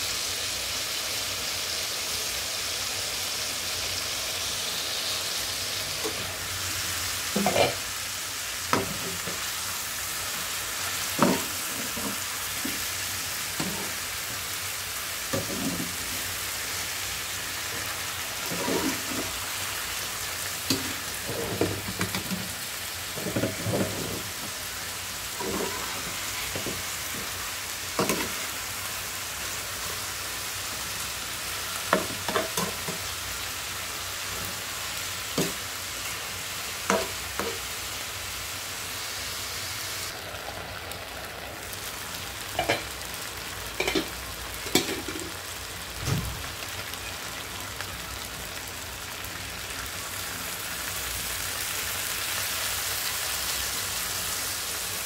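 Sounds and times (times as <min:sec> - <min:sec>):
chicken sizzling in a pan: 0:00.0 - 0:55.0.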